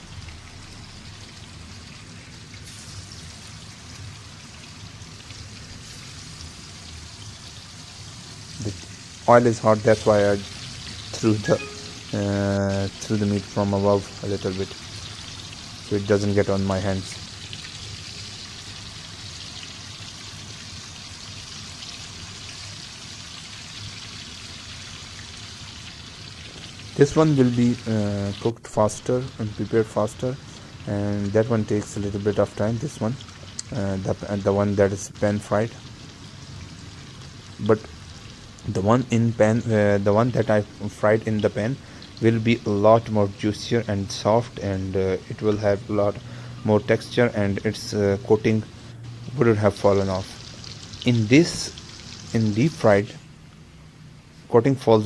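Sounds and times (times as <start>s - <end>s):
chicken frying in hot oil: 0.0s - 55.0s.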